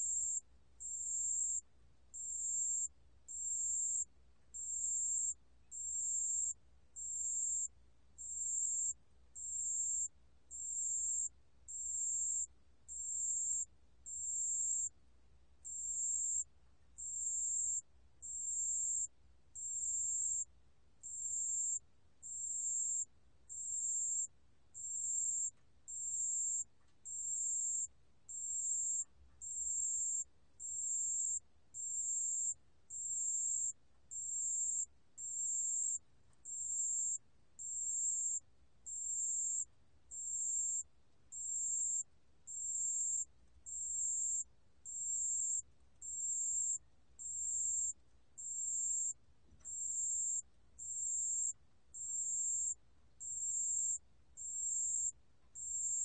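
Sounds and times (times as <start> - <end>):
cricket trilled chirp: 0.0 - 15.0, 15.6 - 56.0.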